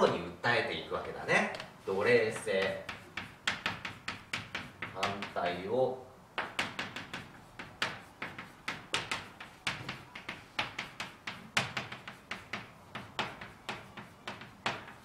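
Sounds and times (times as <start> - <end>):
chalk clicking on blackboard: 1.4 - 15.0.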